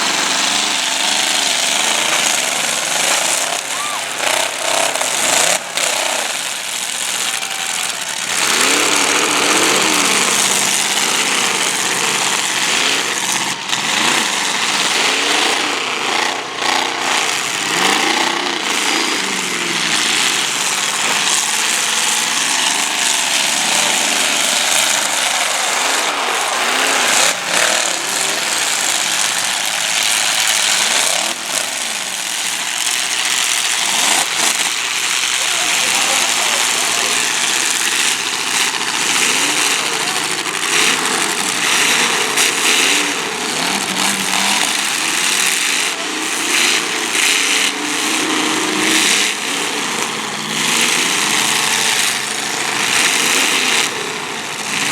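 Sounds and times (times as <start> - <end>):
car engines revving: 0.0 - 54.9.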